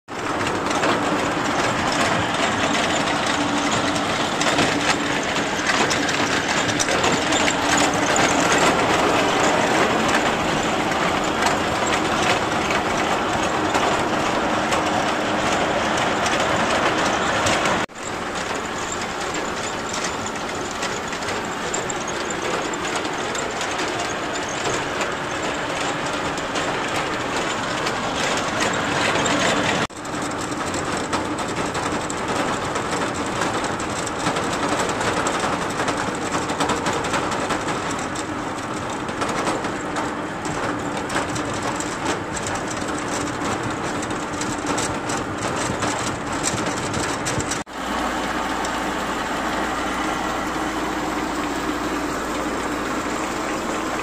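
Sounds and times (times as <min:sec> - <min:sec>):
drilling rig engine running: 0:00.1 - 0:54.0.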